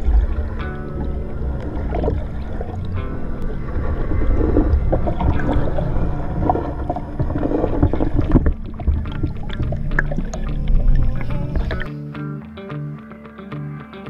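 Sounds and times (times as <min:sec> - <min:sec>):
low underwater rumble and hum: 0:00.0 - 0:11.9
water gurgling and sloshing: 0:00.0 - 0:11.9.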